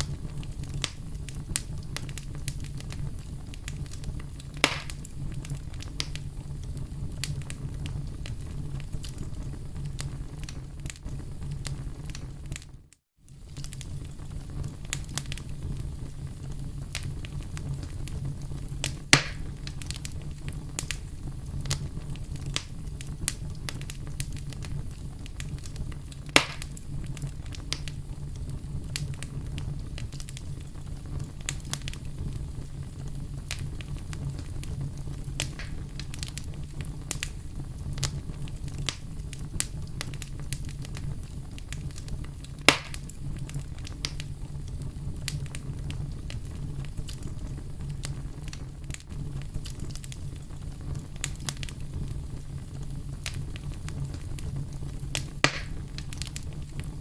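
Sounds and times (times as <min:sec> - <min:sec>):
low steady rumble: 0:00.0 - 0:12.6, 0:13.3 - 0:57.0
campfire crackling: 0:00.0 - 0:57.0
loud fire pops: 0:00.0 - 0:57.0.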